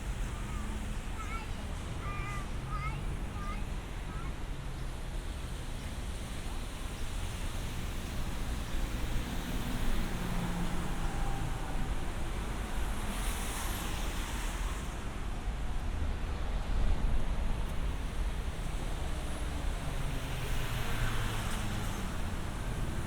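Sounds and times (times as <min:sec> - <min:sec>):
city traffic engines: 0:00.0 - 0:23.0.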